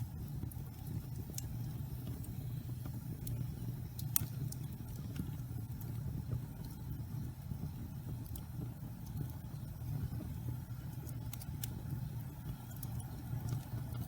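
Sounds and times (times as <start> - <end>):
fire rumbling: 0.0 - 14.0
logs crackling and popping: 0.3 - 14.0.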